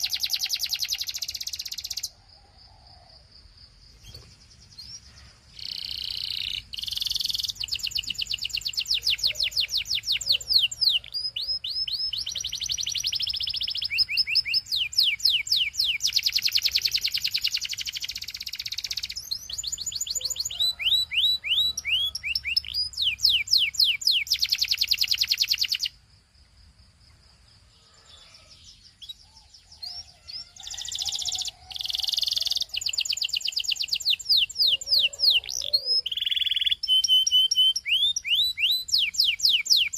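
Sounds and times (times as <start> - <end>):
canary singing: 0.0 - 2.2, 4.0 - 26.0, 28.0 - 39.9.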